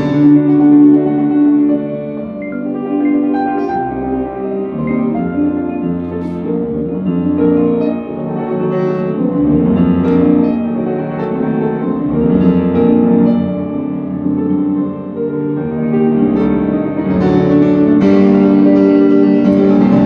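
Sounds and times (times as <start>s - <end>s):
instrumental piano music: 0.0s - 20.0s.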